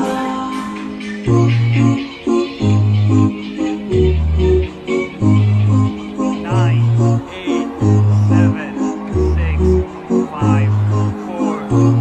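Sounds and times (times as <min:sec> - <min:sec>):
held keyboard chords: 0:00.0 - 0:12.0.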